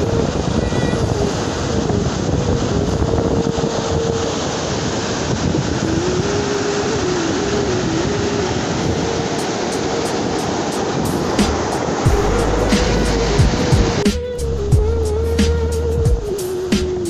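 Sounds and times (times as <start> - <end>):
floodwater rushing: 0.0 - 17.0
thin wavering tone: 0.0 - 17.0
wind buffeting microphone: 0.0 - 17.0.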